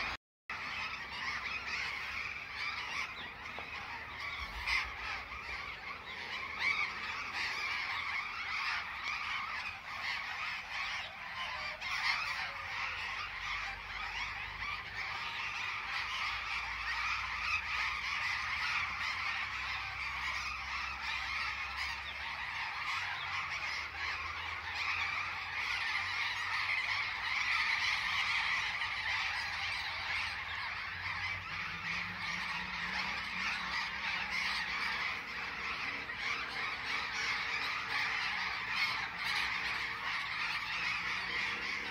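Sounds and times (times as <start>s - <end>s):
flock of birds squawking: 0.0s - 41.9s.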